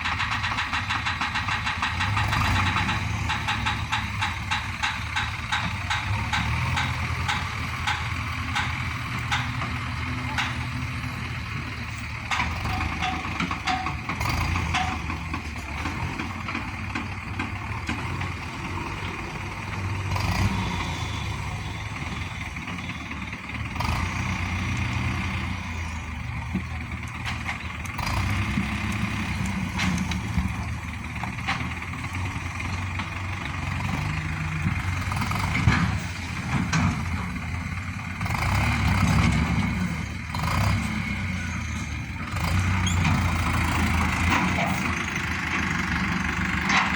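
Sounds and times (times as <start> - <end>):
sharp knocks and clanks: 0.0 - 20.5, 24.1 - 37.6, 42.4 - 46.9
diesel machinery engine running: 0.0 - 46.9.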